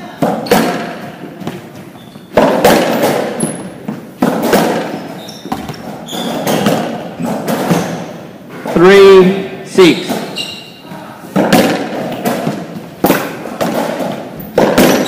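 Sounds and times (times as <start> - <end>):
racquetball hits echoing: 0.0 - 15.0.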